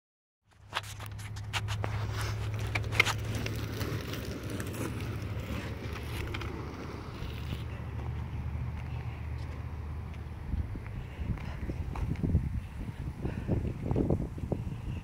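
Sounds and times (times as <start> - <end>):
low outdoor rumble: 1.0 - 15.0.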